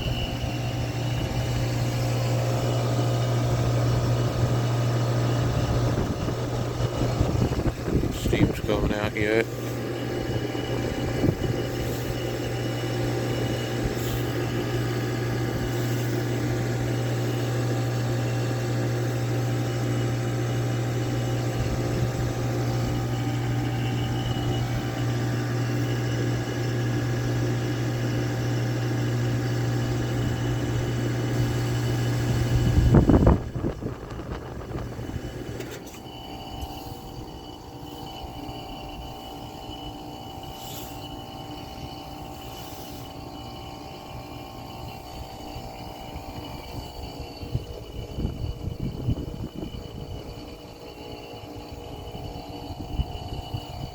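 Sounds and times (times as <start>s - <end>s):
heat pump compressor hum: 0.0s - 53.9s.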